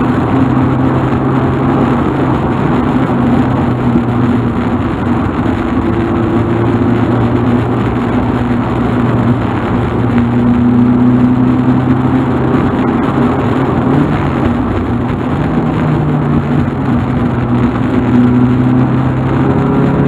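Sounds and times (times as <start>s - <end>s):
car engine humming: 0.0s - 20.0s
road noise: 0.0s - 20.0s.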